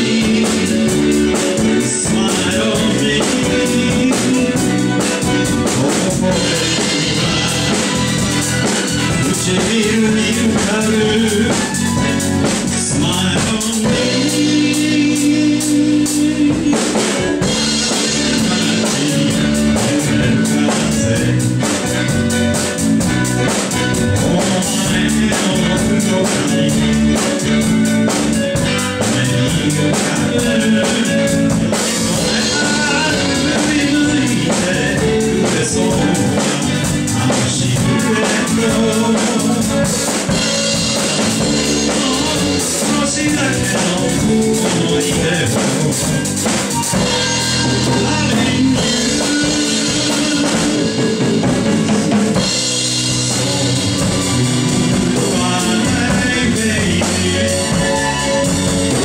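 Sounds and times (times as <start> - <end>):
person singing: 0.0 - 59.0
rock band playing live: 0.0 - 59.0.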